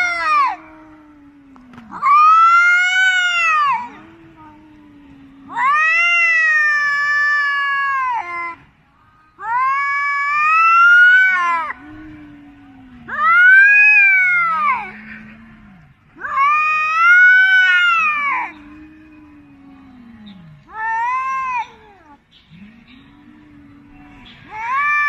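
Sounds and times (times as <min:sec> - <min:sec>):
low cat moan: 0:00.0 - 0:08.6, 0:10.1 - 0:25.0
cat yowling: 0:00.0 - 0:08.7, 0:09.4 - 0:25.0.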